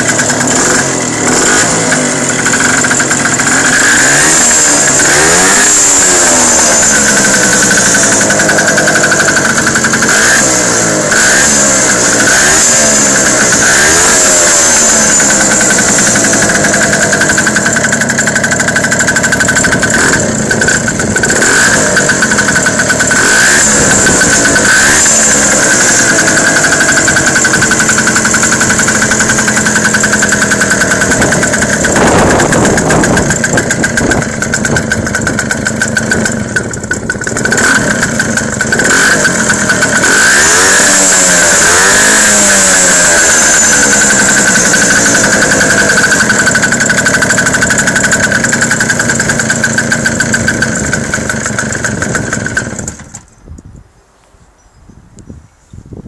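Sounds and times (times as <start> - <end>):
moped engine revving: 0.0 - 53.3.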